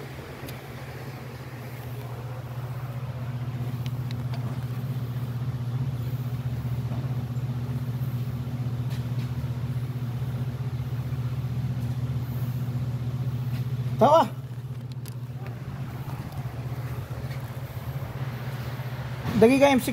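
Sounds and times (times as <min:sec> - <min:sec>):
vehicle engine idling: 0:00.0 - 0:19.9.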